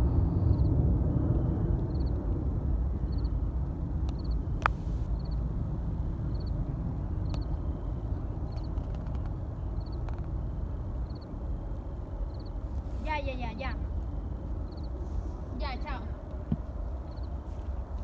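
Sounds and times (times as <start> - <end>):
distant jet airliner rumble: 0.0 - 18.0.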